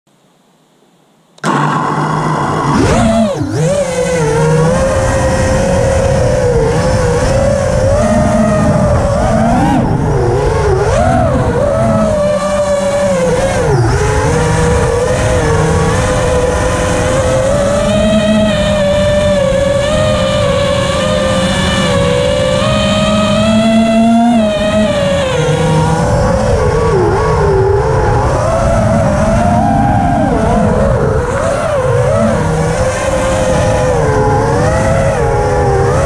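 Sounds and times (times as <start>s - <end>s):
drone motors whining: 1.4s - 36.0s.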